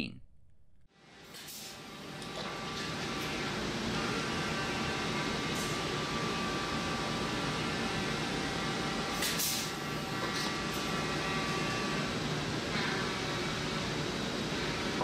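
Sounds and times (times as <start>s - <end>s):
machine shop hum: 0.6s - 15.0s
faint machine whines: 1.0s - 15.0s.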